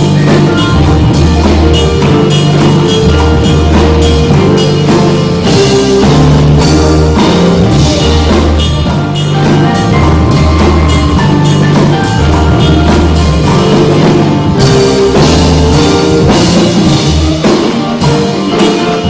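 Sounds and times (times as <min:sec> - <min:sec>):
bass notes: 0:00.0 - 0:19.0
drum kit beat: 0:00.0 - 0:19.0.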